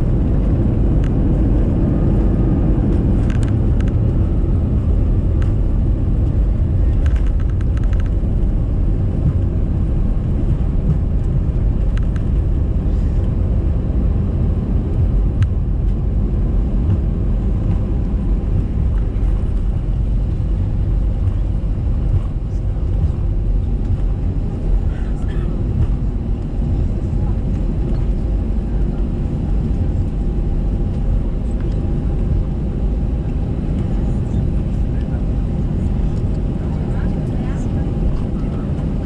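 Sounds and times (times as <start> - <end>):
aircraft wheels and engines rumbling: 0.0 - 39.0.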